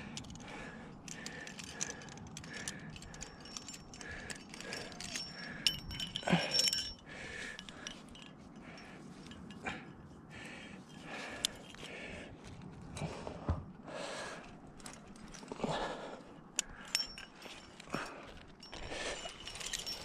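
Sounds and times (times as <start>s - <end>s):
carabiners clinking and jangling: 0.0s - 10.2s, 10.8s - 12.2s, 14.3s - 20.0s.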